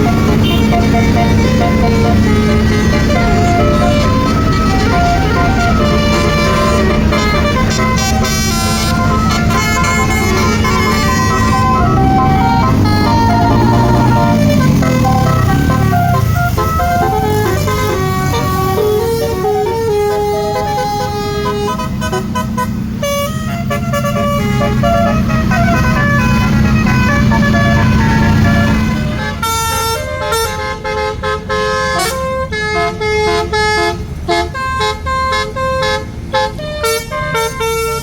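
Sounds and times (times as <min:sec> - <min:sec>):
bus engine running: 0:00.0 - 0:38.0
bus horn playing a melody: 0:00.0 - 0:38.0.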